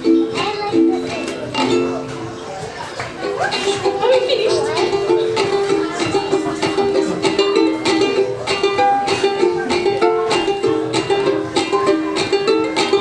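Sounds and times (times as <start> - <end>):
ukulele strumming chords: 0.0 - 13.0.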